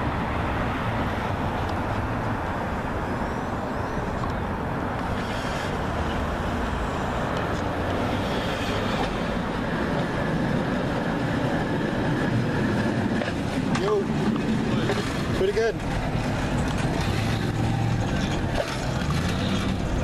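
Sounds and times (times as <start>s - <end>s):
truck engine rumbling: 0.0s - 20.0s
wheels rolling on rails: 1.2s - 20.0s.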